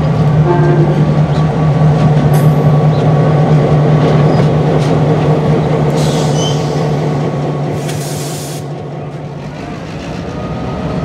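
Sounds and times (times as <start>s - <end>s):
diesel locomotive engine drone: 0.0s - 11.0s
wheels rumbling on rails: 0.0s - 11.0s.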